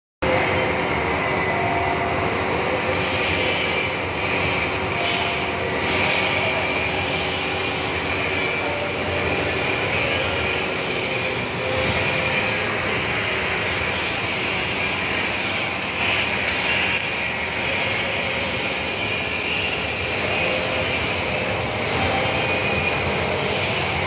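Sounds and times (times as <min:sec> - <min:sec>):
machinery roar: 0:00.2 - 0:24.0.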